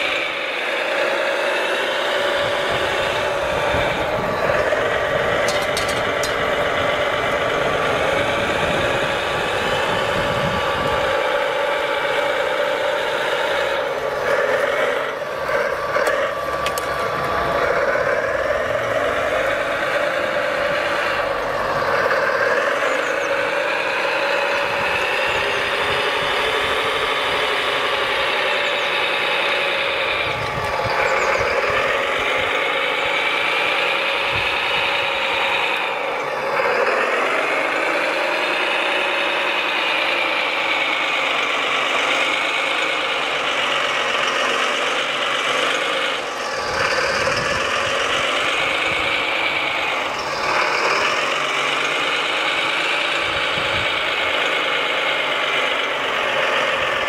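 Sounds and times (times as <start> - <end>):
electric motors whining: 0.0 - 57.0
steady mechanical hum: 0.0 - 57.0.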